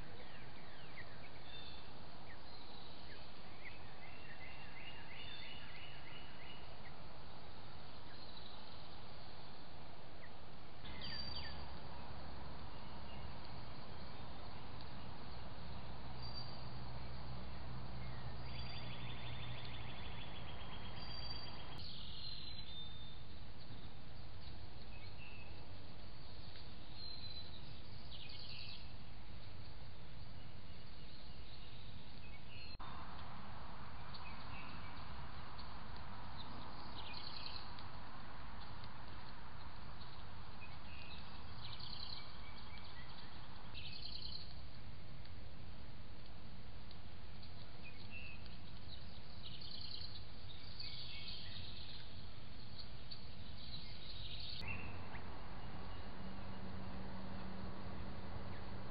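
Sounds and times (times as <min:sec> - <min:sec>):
outdoor background hiss: 0:00.0 - 0:58.9
songbirds calling: 0:00.0 - 0:58.9.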